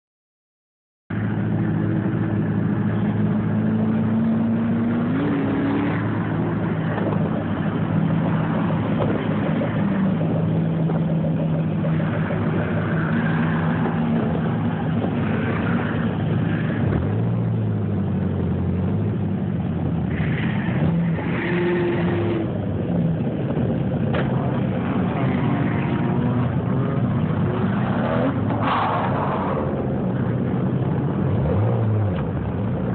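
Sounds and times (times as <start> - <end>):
car engines idling and revving: 1.1 - 32.9.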